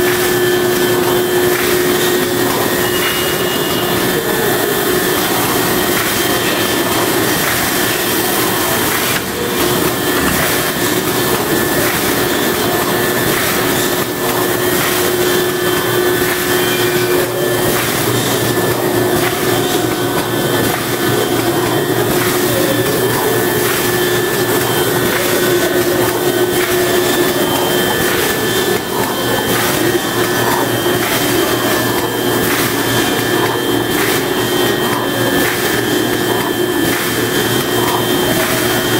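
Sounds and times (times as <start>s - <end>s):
machine whir and hiss: 0.0s - 38.9s.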